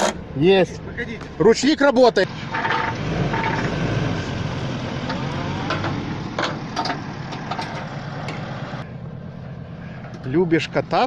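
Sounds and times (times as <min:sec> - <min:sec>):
tow truck engine idling: 0:00.1 - 0:11.0.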